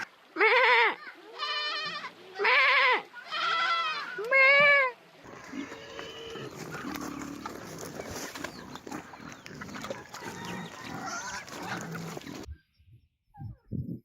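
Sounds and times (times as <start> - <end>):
farm animals honking and bleating: 0.4 - 12.5.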